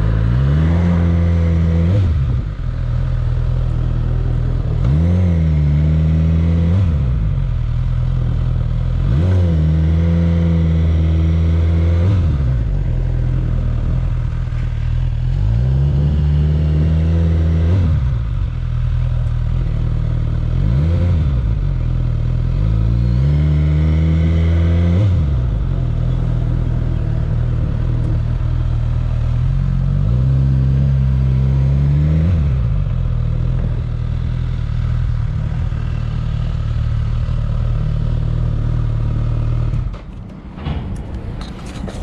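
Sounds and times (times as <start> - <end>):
motorcycle engine revving and idling: 0.0 - 40.7.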